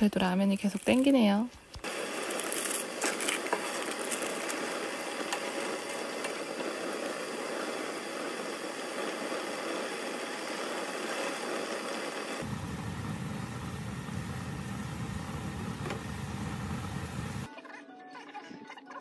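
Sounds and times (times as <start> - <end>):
water boiling in a pot: 0.5 - 17.5.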